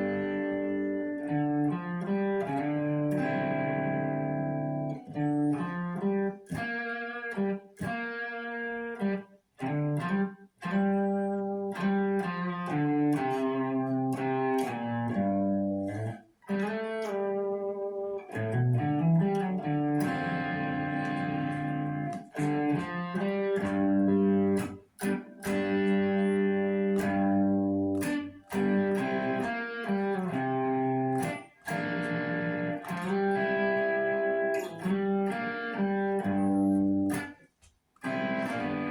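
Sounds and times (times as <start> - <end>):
bluesy electric guitar riff: 0.0 - 38.9.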